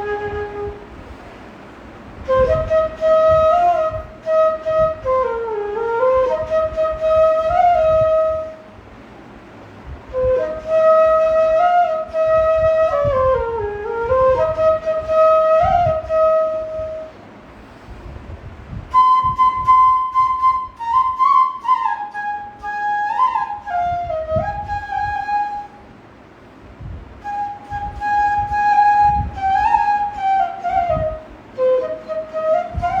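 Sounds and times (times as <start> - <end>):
bamboo flute slow melody: 0.0 - 0.9, 2.2 - 8.7, 10.1 - 17.2, 18.9 - 26.0, 27.2 - 33.0.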